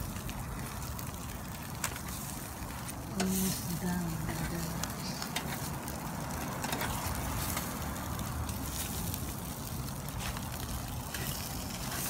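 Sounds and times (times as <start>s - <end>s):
fish sizzling on a grill: 0.0s - 12.0s
steady low rumble: 0.0s - 12.0s.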